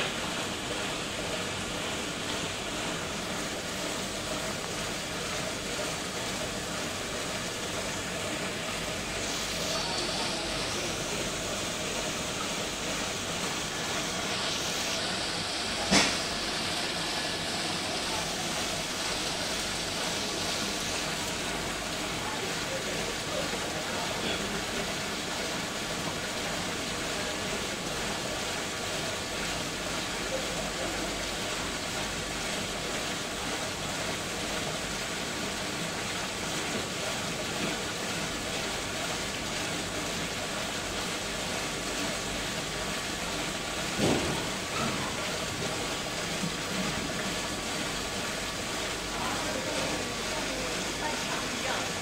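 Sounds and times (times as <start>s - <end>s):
water rushing through pipes: 0.0s - 52.0s.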